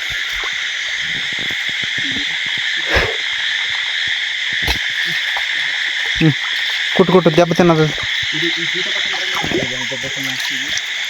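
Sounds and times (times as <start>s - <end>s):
night insects buzzing: 0.0s - 11.0s.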